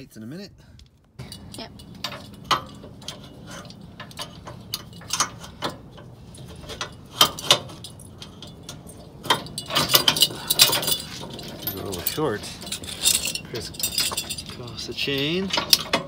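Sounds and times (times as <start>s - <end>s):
metal chain clinking and clanking: 1.2s - 16.0s.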